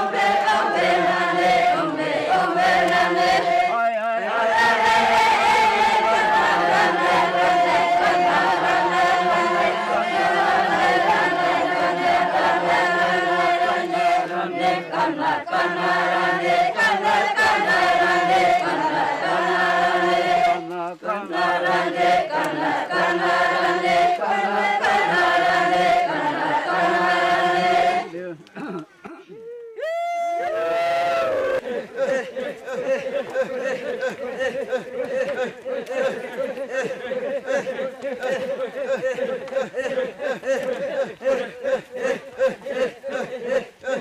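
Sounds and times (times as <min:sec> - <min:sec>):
group singing a chant: 0:00.0 - 0:28.4, 0:31.1 - 0:44.0.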